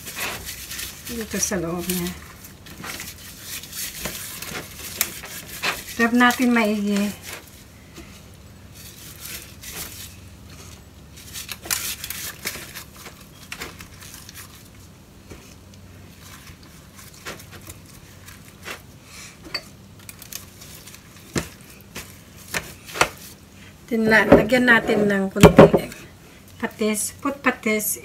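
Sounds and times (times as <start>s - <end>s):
foil pan rustling and crinkling: 0.0s - 23.5s.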